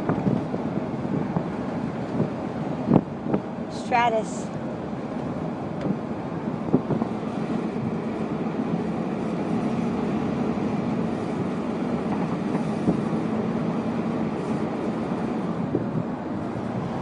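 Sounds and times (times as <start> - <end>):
constant low hum: 0.0 - 17.0
truck road and wind noise: 0.0 - 17.0.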